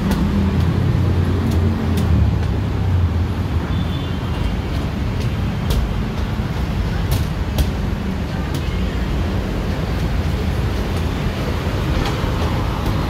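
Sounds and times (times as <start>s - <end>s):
footsteps on steel walkway: 0.0s - 13.0s
road traffic rumble: 0.0s - 13.0s.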